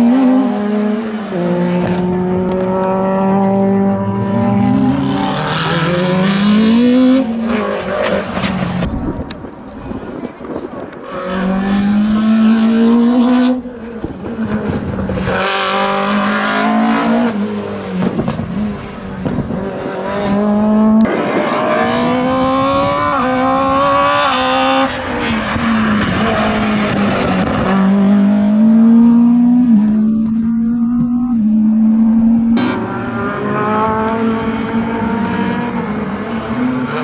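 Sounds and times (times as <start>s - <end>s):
race car engine at full throttle: 0.0s - 37.0s.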